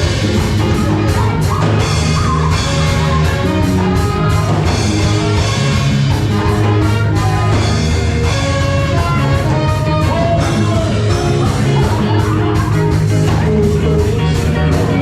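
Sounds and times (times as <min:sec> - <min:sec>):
bass guitar: 0:00.0 - 0:15.0
drum kit: 0:00.0 - 0:15.0
electric guitar: 0:00.0 - 0:15.0
horn section melody: 0:00.0 - 0:15.0.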